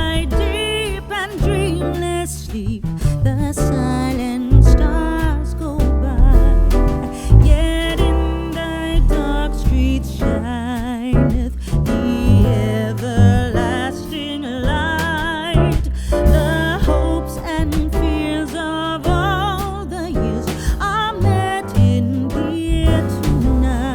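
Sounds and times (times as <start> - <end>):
song with sung vocals and beat: 0.0 - 23.9.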